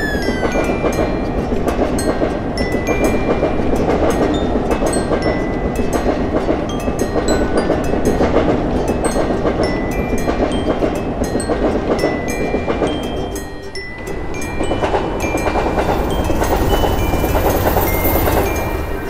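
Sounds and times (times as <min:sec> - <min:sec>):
metallic pings: 0:00.0 - 0:19.0
train wheels rumbling on rail: 0:00.0 - 0:19.0.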